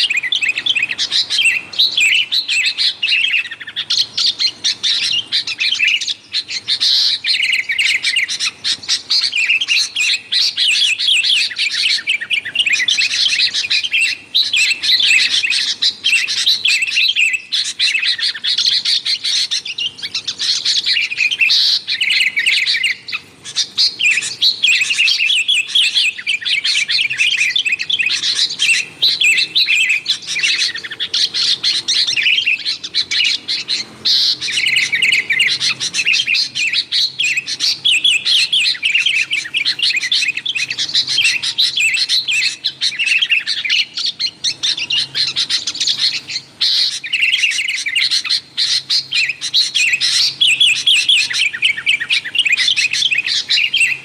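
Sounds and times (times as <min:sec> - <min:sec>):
bulbuls chirping and chattering: 0:00.0 - 0:54.0.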